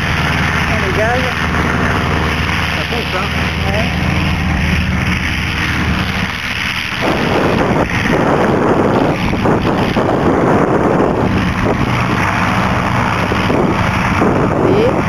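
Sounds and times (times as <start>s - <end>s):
propeller engine drone: 0.0s - 15.0s
wind buffeting microphone: 0.0s - 15.0s.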